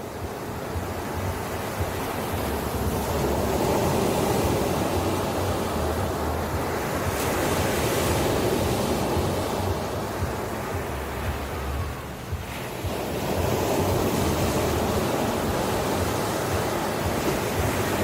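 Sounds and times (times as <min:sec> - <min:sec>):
ocean surf hiss: 0:00.0 - 0:18.0.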